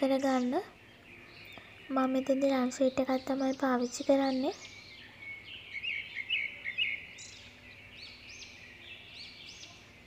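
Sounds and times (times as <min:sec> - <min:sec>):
high arching bird calls: 0:00.0 - 0:10.0
small birds chirping: 0:00.0 - 0:10.0.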